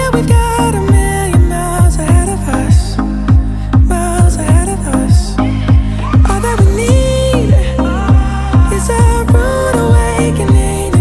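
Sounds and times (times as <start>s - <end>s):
electronic pop music: 0.0s - 11.0s
heavy kick drum: 0.0s - 11.0s.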